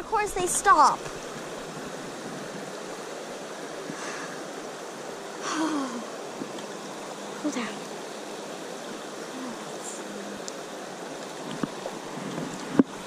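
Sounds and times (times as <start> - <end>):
creek water running over stones: 0.0 - 13.0.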